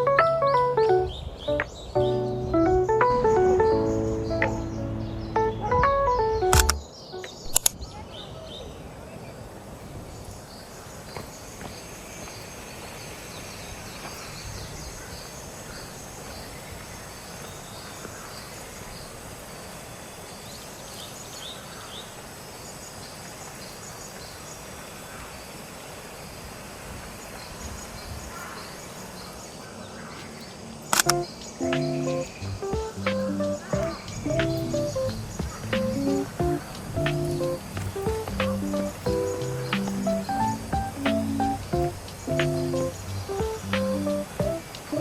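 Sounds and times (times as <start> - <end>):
steady background hiss: 0.0 - 45.0.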